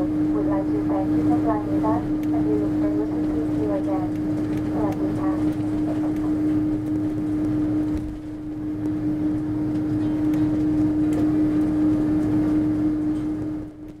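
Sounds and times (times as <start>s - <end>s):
aircraft engines idling: 0.0s - 14.0s
steady mid-pitched hum: 0.0s - 14.0s.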